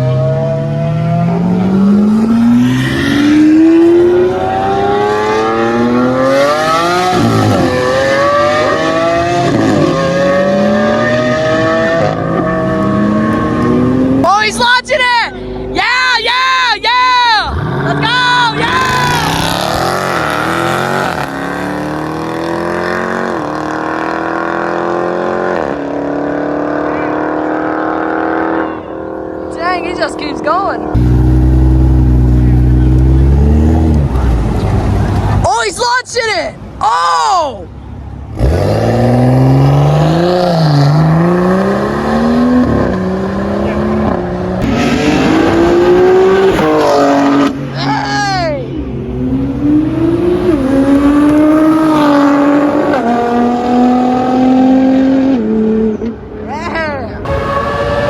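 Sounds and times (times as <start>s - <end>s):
car engine accelerating hard: 0.0s - 14.3s, 17.5s - 35.4s, 38.3s - 48.0s, 49.1s - 56.4s.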